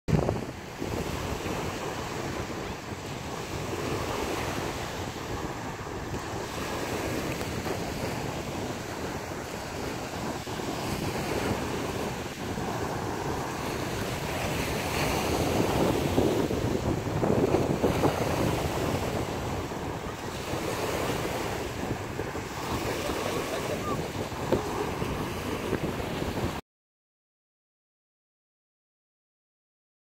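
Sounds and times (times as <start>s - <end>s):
surf washing onto beach: 0.1s - 26.6s
wind buffeting microphone: 0.1s - 26.6s.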